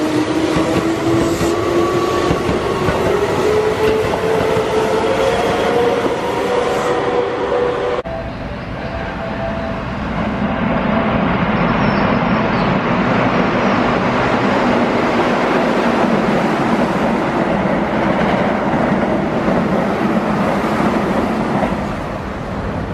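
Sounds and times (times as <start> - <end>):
train wheels on rail: 0.0 - 22.9.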